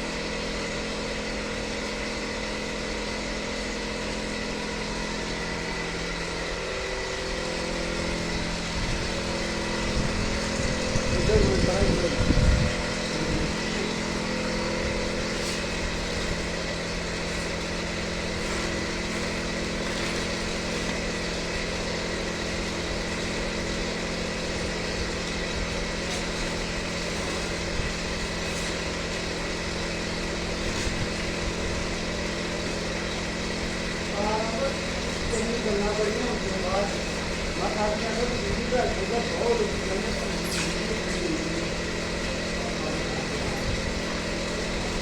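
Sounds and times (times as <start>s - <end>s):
lathe mechanical hum: 0.0s - 45.0s.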